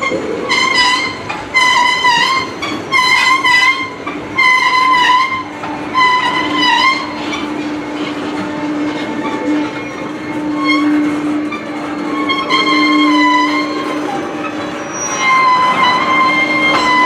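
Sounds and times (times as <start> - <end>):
freight cars rolling: 0.0 - 17.0
high wavering wheel squeals: 0.0 - 17.0.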